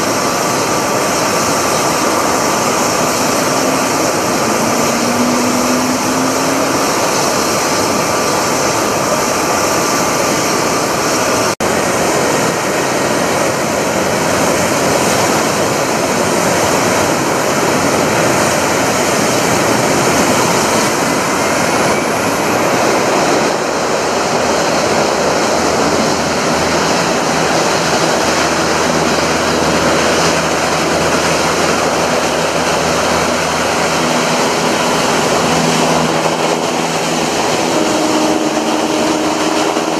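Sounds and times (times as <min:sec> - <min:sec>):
hovercraft engines roaring: 0:00.0 - 0:39.9.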